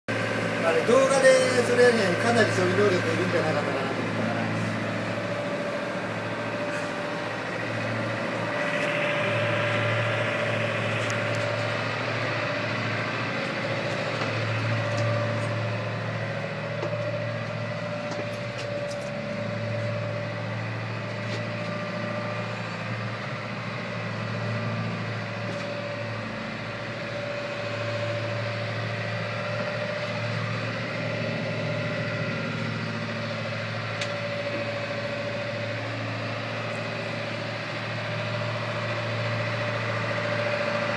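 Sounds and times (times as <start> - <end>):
engine drone: 0.1 - 40.9
steady humming tone: 0.1 - 40.9.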